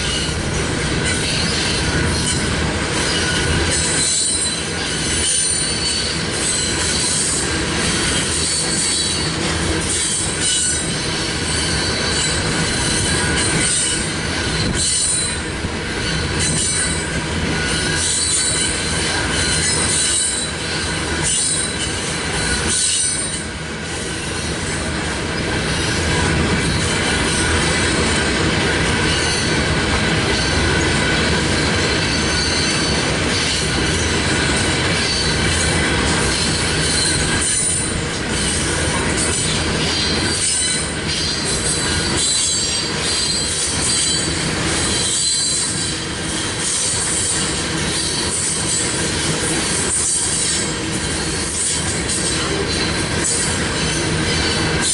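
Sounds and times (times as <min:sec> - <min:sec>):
train rumble: 0:00.0 - 0:54.9
train wheels squealing on rail: 0:00.0 - 0:54.9.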